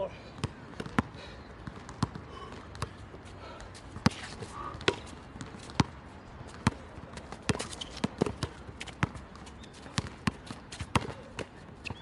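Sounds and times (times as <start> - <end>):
basketball bouncing on hard court: 0.4 - 3.0, 4.8 - 12.0.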